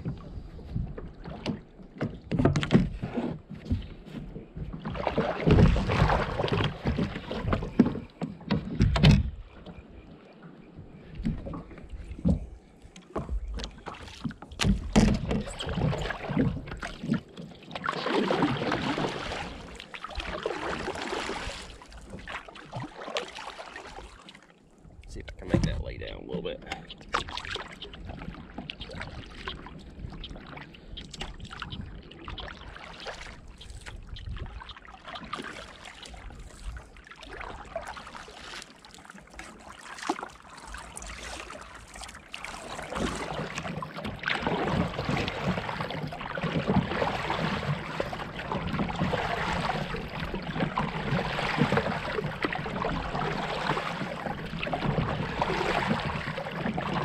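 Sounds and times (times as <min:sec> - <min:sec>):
paddle strokes splashing: 0:00.0 - 0:57.0.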